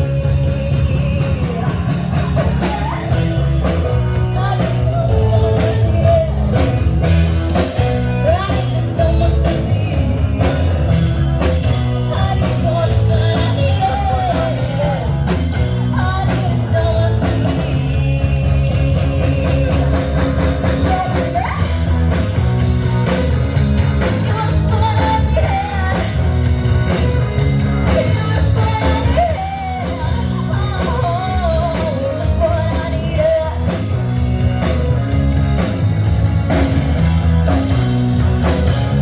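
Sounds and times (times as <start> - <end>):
rock music with singing: 0.0 - 39.0.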